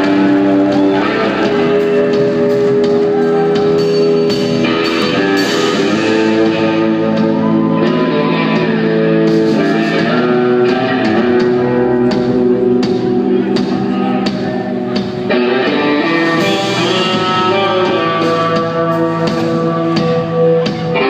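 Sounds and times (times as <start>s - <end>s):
lead guitar bending long notes: 0.0s - 21.0s
live band playing slow song: 0.0s - 21.0s.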